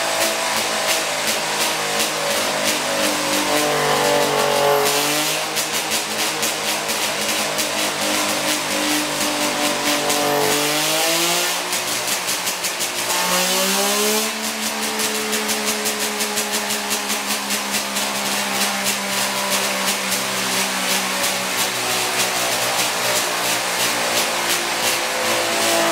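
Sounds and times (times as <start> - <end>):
race engine revving: 0.0 - 25.9.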